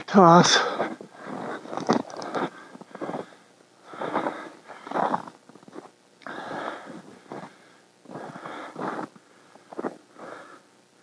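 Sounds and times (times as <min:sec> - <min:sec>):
man breathing heavily: 0:00.4 - 0:10.8.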